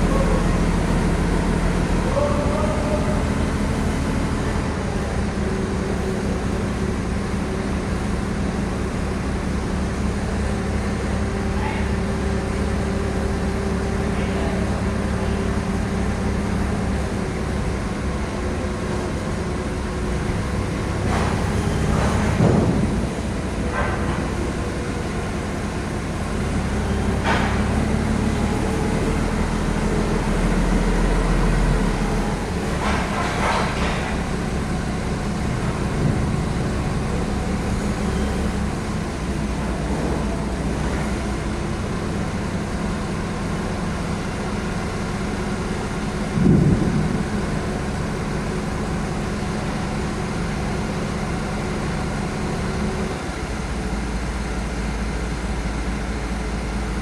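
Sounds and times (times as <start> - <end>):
large vehicle engine humming: 0.0 - 57.0.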